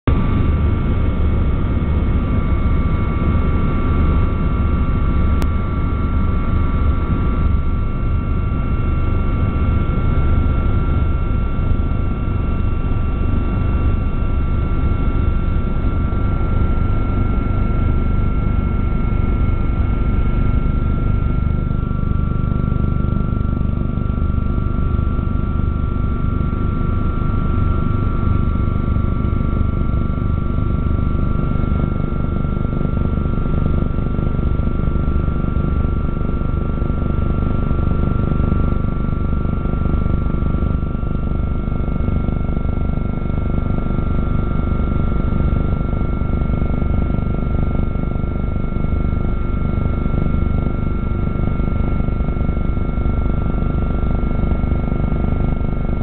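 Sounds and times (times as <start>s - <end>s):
helicopter engine and rotor drone: 0.1s - 56.0s.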